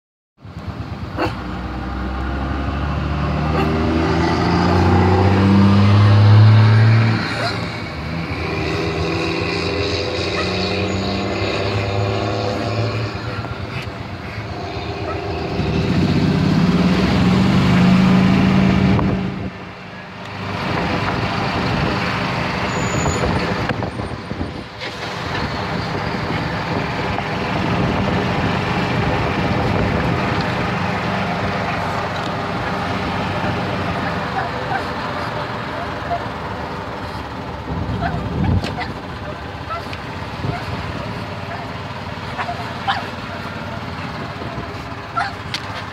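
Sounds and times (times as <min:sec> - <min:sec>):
vehicle engine: 0:00.4 - 0:45.9
wind and road noise: 0:00.4 - 0:45.9.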